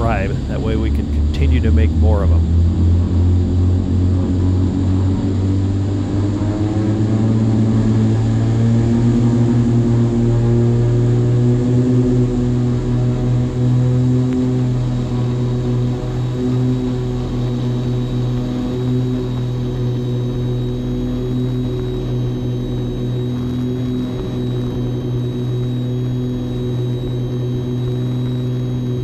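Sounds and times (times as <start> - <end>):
twin propeller aircraft engines droning: 0.0 - 29.0.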